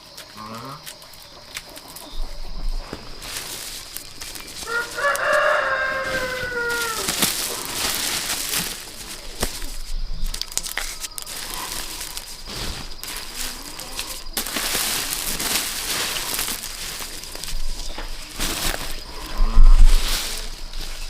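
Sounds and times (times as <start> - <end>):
rustling and crackling: 0.0 - 21.0.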